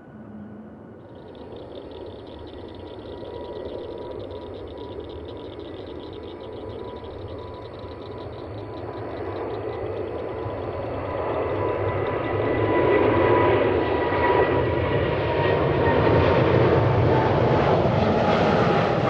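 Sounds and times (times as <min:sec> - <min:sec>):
jet engines rushing and whining: 0:00.0 - 0:19.0.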